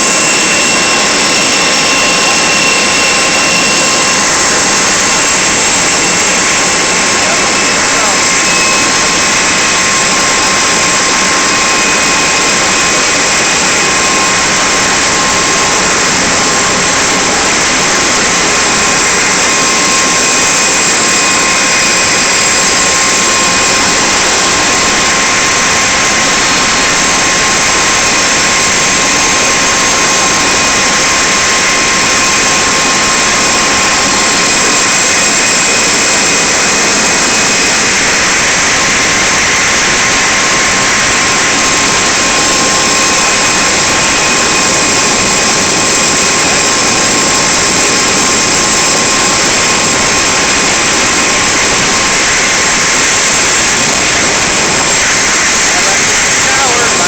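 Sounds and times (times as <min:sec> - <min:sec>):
jet turbine hiss and whine: 0:00.0 - 0:57.0.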